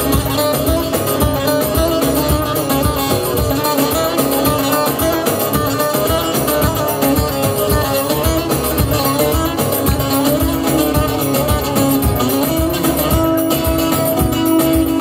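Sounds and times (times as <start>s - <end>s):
plucked string instruments: 0.0s - 15.0s
steady beat: 0.0s - 15.0s.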